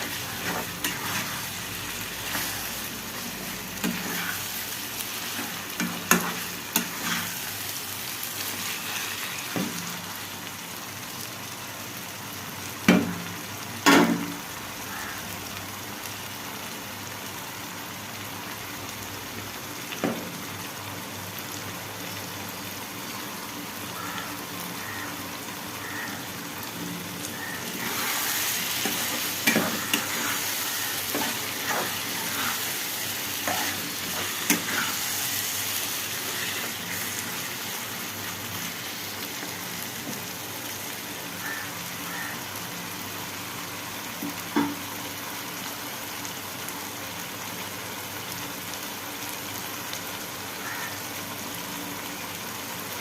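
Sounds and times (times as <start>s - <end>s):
chicken sizzling in oil: 0.0s - 53.0s.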